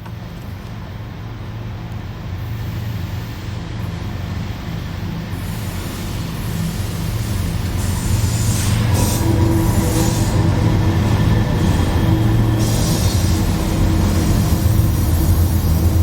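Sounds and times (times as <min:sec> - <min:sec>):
train rumbling over bridge: 0:00.0 - 0:16.0.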